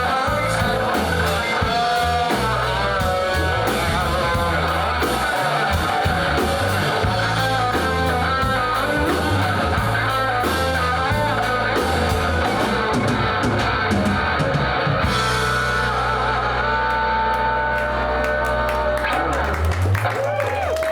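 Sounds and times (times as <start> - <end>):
rock music from radio speaker: 0.0 - 20.4.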